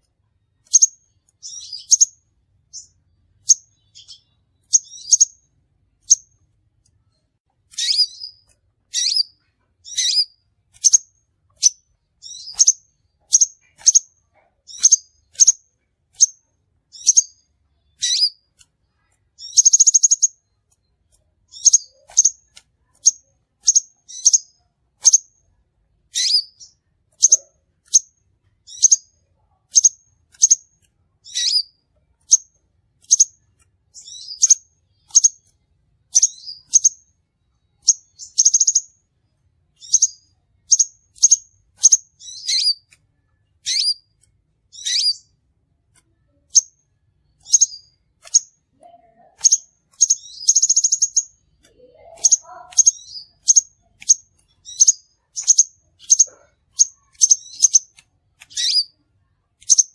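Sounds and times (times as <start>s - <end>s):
bird chirping: 0.0s - 59.9s
buzzy bird trills: 0.6s - 5.4s, 7.7s - 18.5s, 19.1s - 20.6s, 21.5s - 25.3s, 26.1s - 35.5s, 36.1s - 37.0s, 37.8s - 38.9s, 39.8s - 42.9s, 43.6s - 45.3s, 46.3s - 59.0s, 59.6s - 59.9s.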